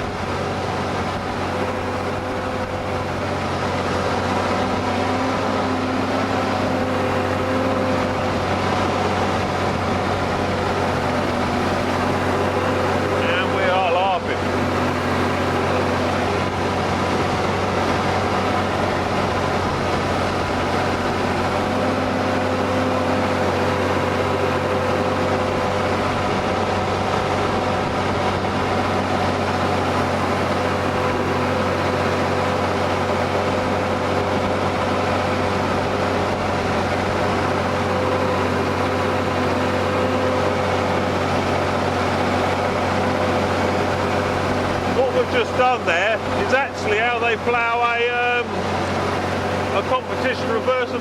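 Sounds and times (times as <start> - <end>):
tractor diesel engine droning: 0.0 - 51.0.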